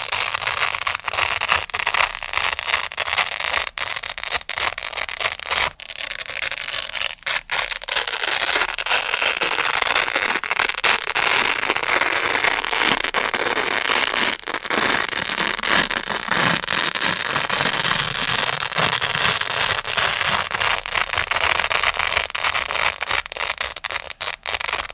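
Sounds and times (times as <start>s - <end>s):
velcro pad crackling: 0.0s - 24.9s.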